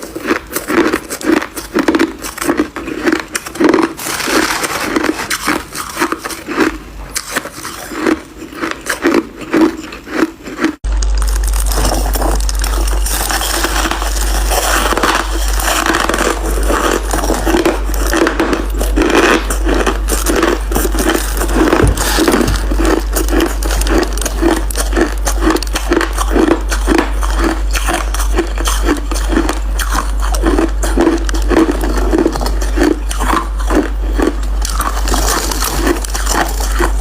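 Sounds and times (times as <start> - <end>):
ice being chewed: 0.0 - 37.0
steady low hum: 0.0 - 37.0.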